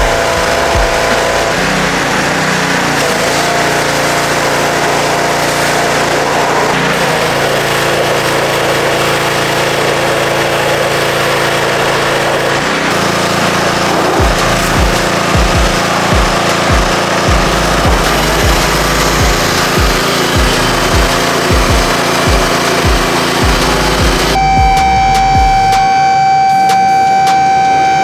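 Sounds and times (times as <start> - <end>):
high-pressure spray hissing on metal: 0.0 - 24.3
pressure washer engine droning: 0.0 - 28.0.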